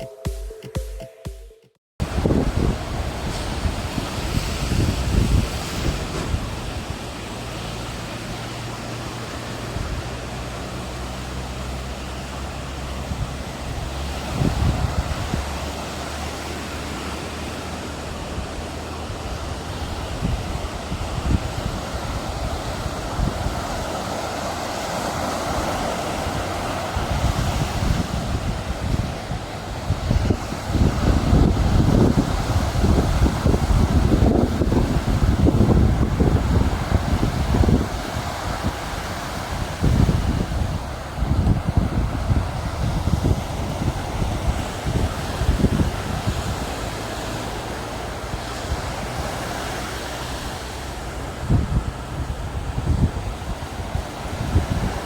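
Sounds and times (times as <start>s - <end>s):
rough sea surf: 2.0s - 55.0s
wind buffeting microphone: 2.0s - 55.0s.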